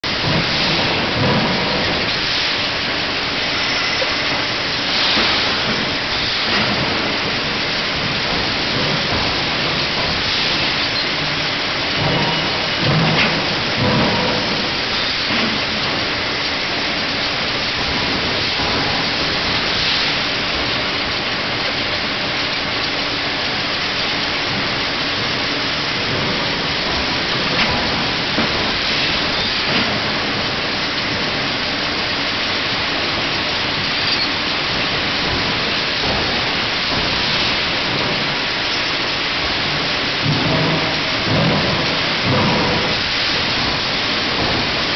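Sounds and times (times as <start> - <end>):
machinery rushing noise: 0.0 - 44.9.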